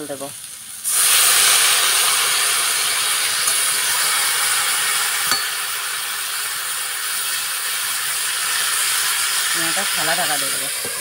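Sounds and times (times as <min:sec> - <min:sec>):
beans sizzling in hot wok: 0:00.0 - 0:11.0.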